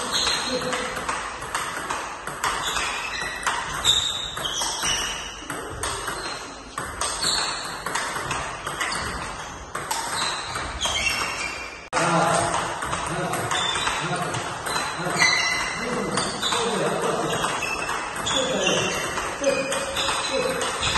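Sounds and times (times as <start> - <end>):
table tennis ball strikes: 0.0 - 20.9.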